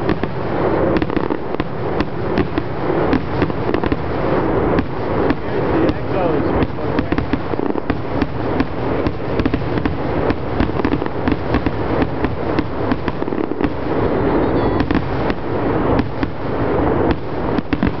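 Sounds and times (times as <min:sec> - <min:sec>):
fireworks booming and cracking: 0:00.0 - 0:18.0.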